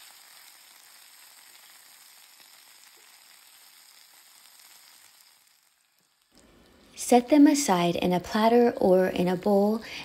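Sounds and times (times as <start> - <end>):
peas sizzling in hot oil: 0.0 - 10.0.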